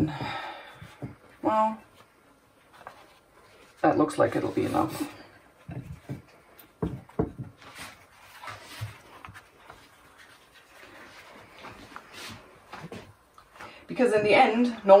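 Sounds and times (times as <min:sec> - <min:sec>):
dough rustling: 0:00.1 - 0:13.6.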